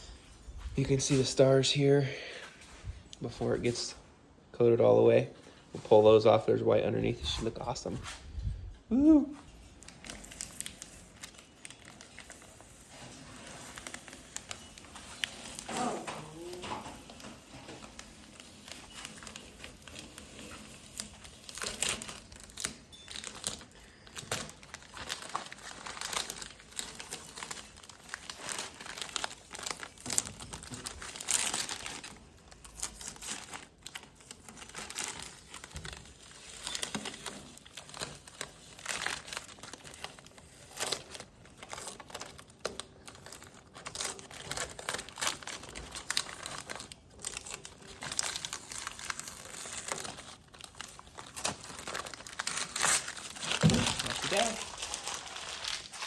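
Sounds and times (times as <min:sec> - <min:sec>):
stencil crinkling and tearing: 0:09.3 - 0:56.0.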